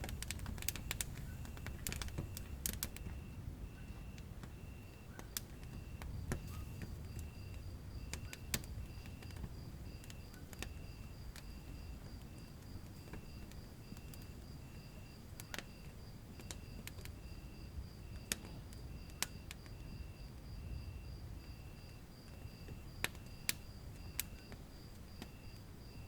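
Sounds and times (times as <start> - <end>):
fire crackling and popping: 0.0 - 26.0
fire rumbling: 0.0 - 26.0
faint high chirp: 0.7 - 24.6.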